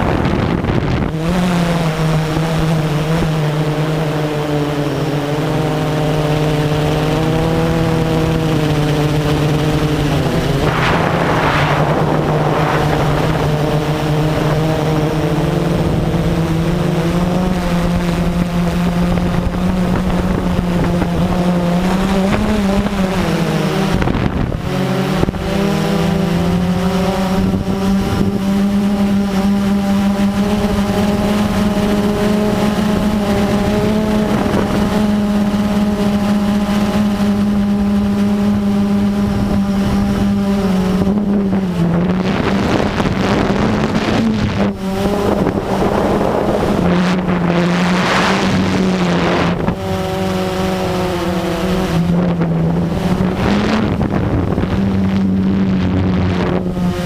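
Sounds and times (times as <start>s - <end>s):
quadcopter motors humming: 0.0s - 57.0s
wind on microphone: 0.0s - 57.0s.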